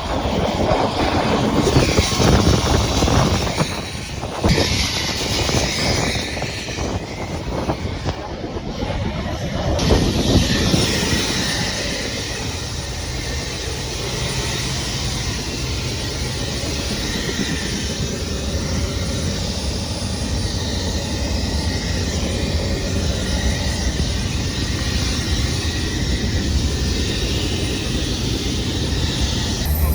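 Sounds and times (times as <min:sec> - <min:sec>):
helicopter engine and rotor: 0:00.0 - 0:29.9.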